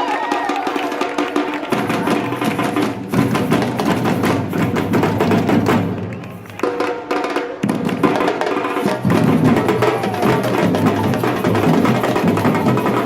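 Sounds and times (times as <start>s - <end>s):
samba percussion group: 0.0s - 13.0s.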